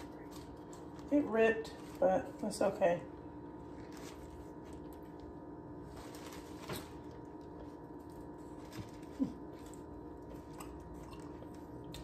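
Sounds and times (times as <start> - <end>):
deli wrapping crinkling: 0.0 - 12.0
faint steady hum: 0.0 - 12.0.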